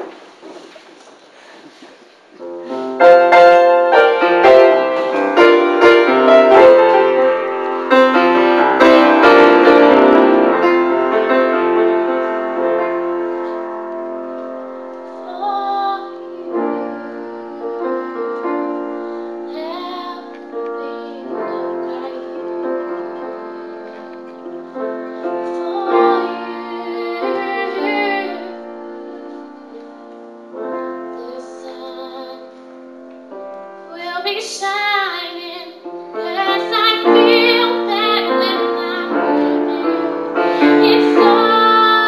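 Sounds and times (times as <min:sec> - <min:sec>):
solo piano chords: 0:02.4 - 0:42.0.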